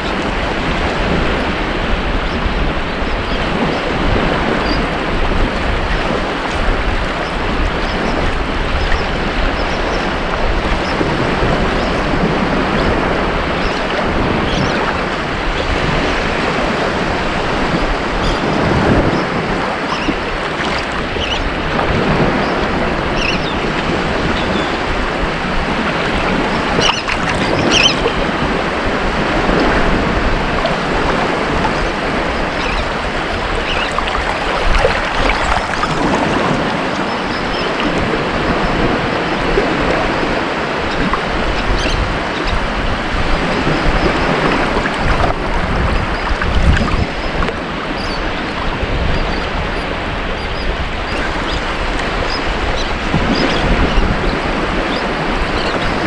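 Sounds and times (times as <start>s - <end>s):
ocean waves washing onto beach: 0.0s - 56.0s
wind noise: 0.0s - 56.0s.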